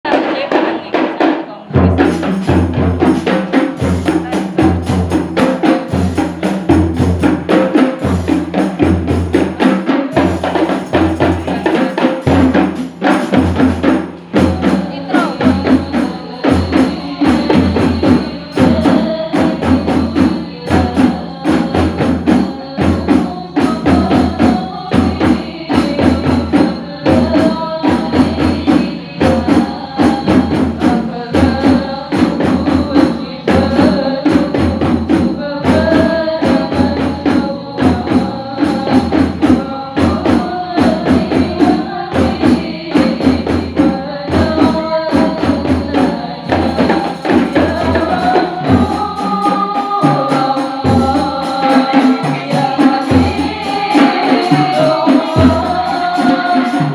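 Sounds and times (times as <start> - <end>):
frame drums: 0.0 - 56.9.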